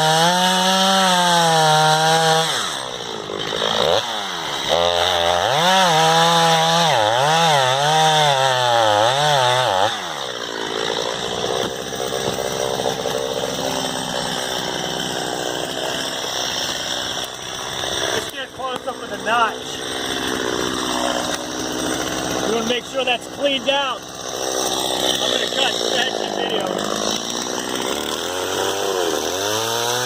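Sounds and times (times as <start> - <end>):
chainsaw cutting tree trunk: 0.0 - 30.0.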